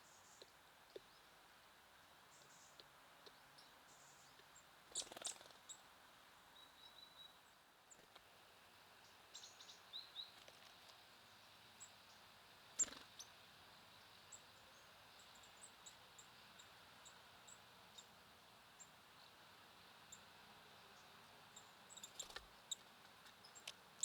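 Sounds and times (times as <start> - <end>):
faint outdoor hiss: 0.0 - 24.0
songbirds chirping: 0.0 - 24.0.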